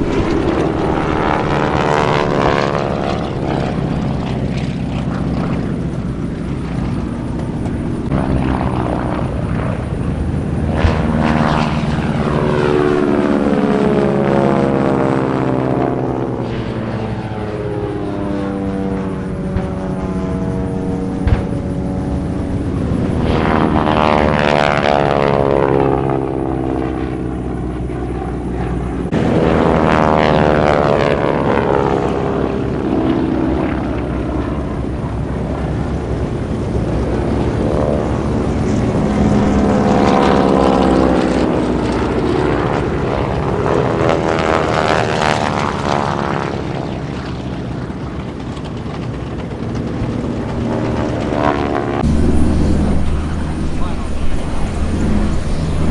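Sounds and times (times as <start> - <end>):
propeller planes passing low: 0.0 - 55.9.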